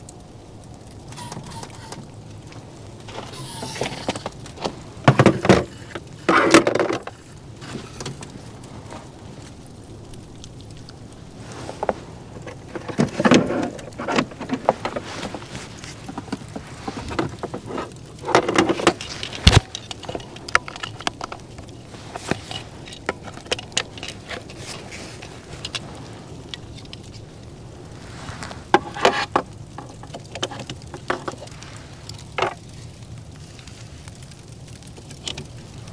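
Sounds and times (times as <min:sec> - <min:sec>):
rustling: 0:00.0 - 0:35.9
objects being handled: 0:00.9 - 0:35.9.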